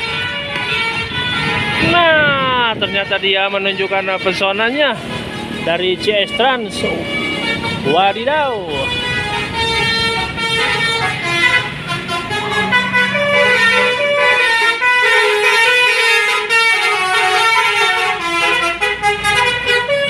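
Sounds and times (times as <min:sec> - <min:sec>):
musical bus horn: 0:00.0 - 0:20.0.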